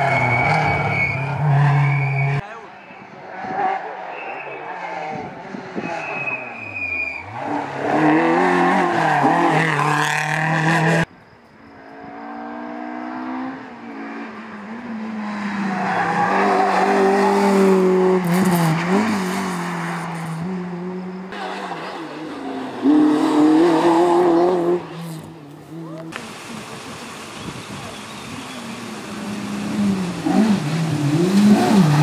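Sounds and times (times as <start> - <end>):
rally car engines revving: 0.0 - 11.1, 11.7 - 32.0.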